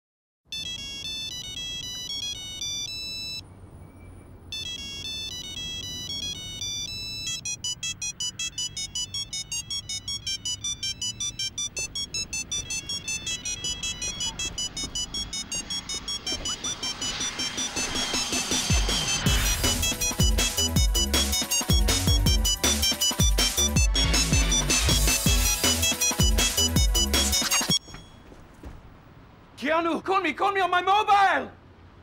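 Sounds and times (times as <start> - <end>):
phone ringtone beeping tune: 0.5 - 3.4, 4.5 - 28.3
fast run of beeps: 0.5 - 28.3.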